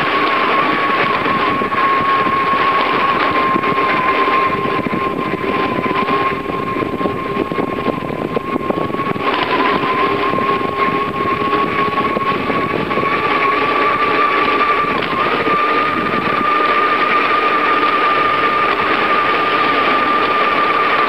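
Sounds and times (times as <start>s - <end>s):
bicycle tyre noise on asphalt: 0.0s - 21.0s
constant high whine: 0.0s - 21.0s
wind on microphone: 0.0s - 21.0s.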